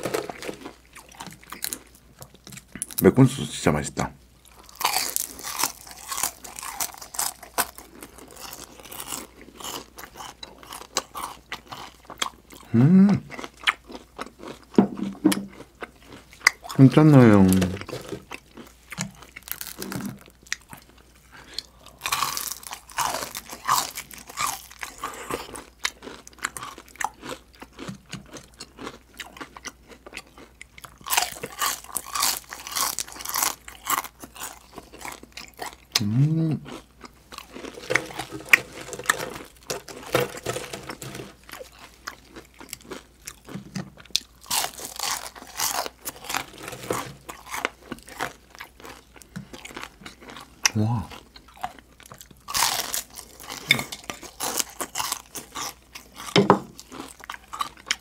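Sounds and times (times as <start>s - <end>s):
loud crunching of fried chicken skin: 4.5s - 12.7s, 17.4s - 21.0s, 21.6s - 36.1s, 36.7s - 58.0s
quiet chewing: 4.5s - 58.0s.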